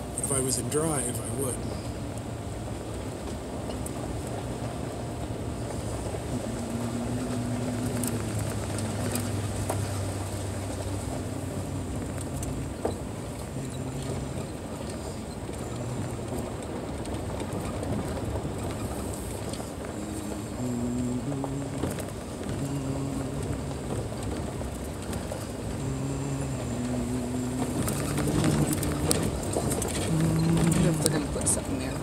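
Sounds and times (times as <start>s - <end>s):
car engine braking: 0.0s - 32.0s
tyre noise on dirt road: 0.0s - 32.0s.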